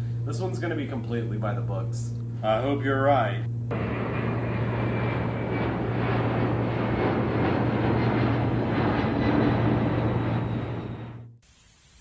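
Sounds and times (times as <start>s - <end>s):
small plane engine droning: 0.0s - 11.4s.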